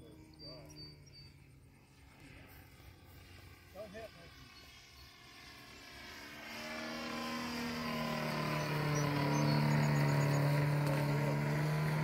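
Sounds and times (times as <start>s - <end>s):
model plane engine flying overhead: 0.0s - 12.0s.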